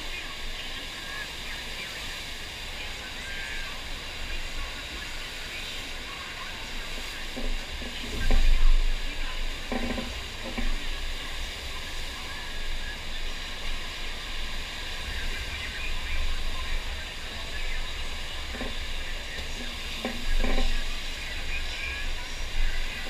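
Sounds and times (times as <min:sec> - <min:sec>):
water rushing over surf machine: 0:00.0 - 0:23.0.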